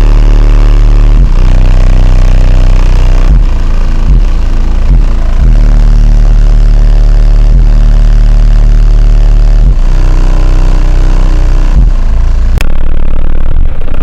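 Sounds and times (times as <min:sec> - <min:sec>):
subwoofer deep bass note: 0:00.0 - 0:14.0.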